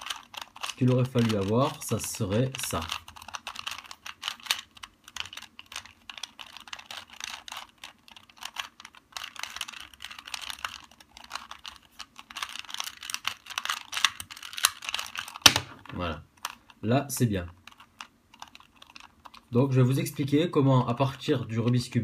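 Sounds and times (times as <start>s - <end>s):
puzzle cube layers clicking: 0.0s - 20.0s.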